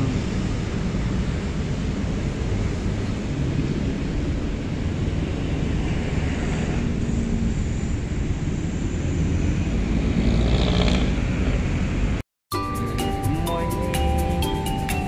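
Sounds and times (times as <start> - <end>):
road traffic rumble: 0.0 - 12.2, 12.8 - 15.0
vehicle passing close: 0.0 - 12.2.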